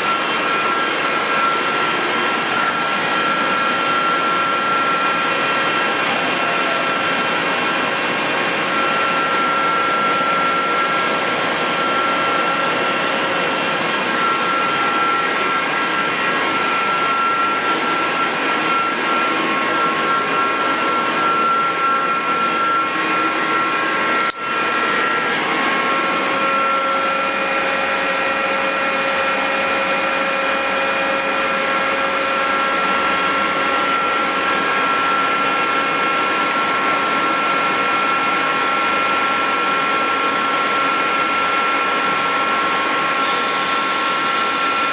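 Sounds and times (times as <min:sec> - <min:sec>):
lathe humming and whining: 0:00.0 - 0:44.9.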